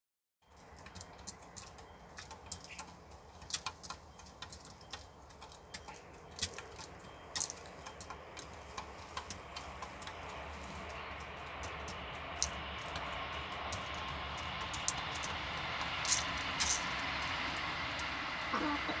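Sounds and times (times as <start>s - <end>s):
beaks tapping on ceramic bowl: 0.5s - 15.9s.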